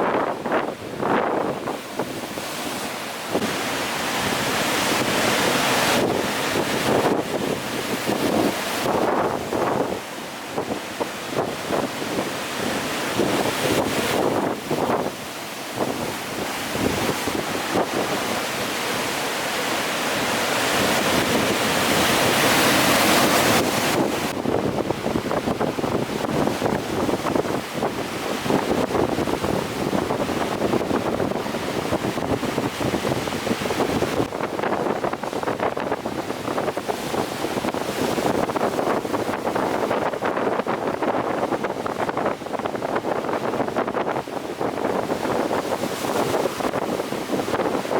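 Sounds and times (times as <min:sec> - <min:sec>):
rough sea waves: 0:00.0 - 0:47.9
wind buffeting microphone: 0:00.0 - 0:47.9.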